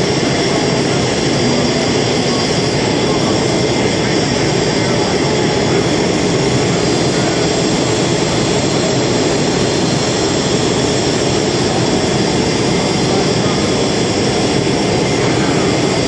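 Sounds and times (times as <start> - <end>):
aircraft turbine engine running: 0.0 - 16.0.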